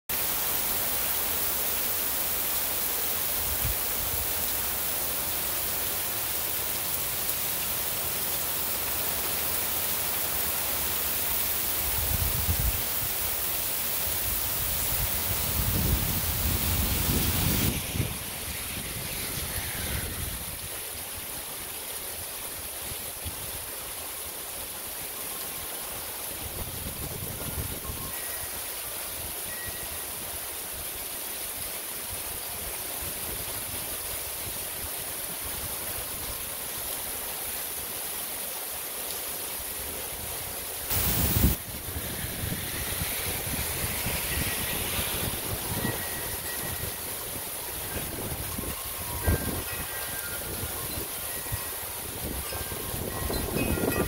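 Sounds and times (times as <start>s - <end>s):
heavy rain hissing: 0.1s - 54.0s.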